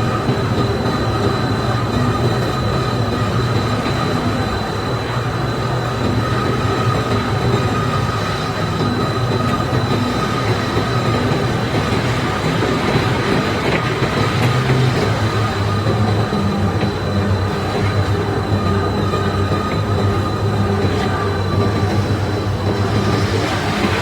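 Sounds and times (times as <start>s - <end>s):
high machine whine: 0.0s - 24.0s
mechanical rumble: 0.0s - 24.0s.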